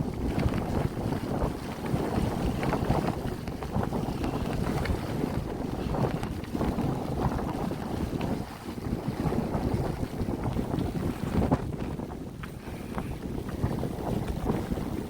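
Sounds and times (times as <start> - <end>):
wind gusting across microphone: 0.0 - 15.0.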